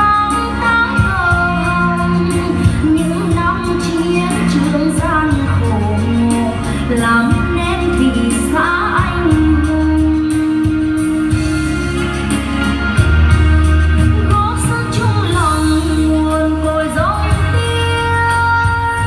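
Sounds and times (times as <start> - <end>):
woman singing: 0.0 - 10.6, 12.9 - 19.0
band with bass and drums: 0.0 - 19.0.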